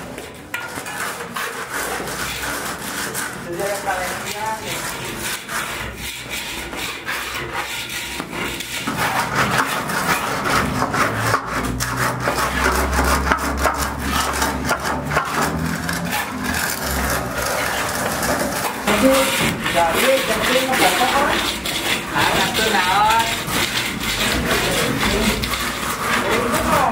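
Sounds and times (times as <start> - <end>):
plastering tools scraping wall: 0.0 - 26.9.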